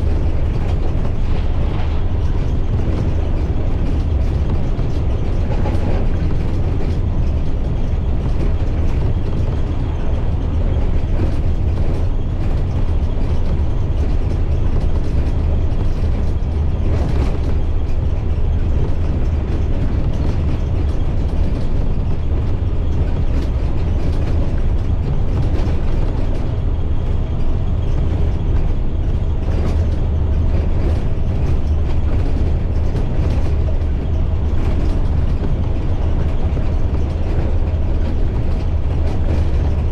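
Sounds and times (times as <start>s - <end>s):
bus engine and road drone: 0.0s - 39.9s.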